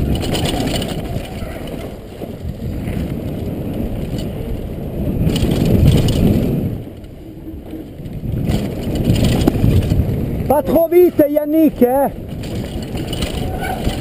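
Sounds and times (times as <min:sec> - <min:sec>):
bike tyres rumbling on rocky trail: 0:00.0 - 0:14.0
wind on microphone: 0:00.0 - 0:14.0.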